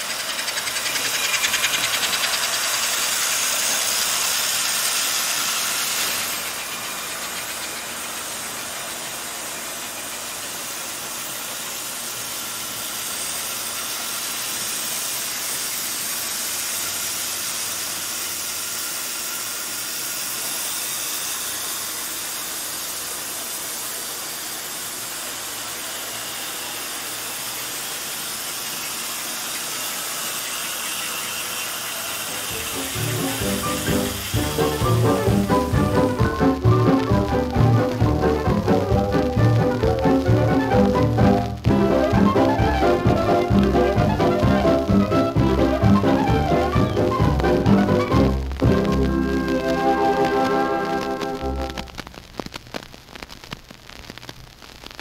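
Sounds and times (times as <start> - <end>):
model trains running on track: 0.0 - 52.0.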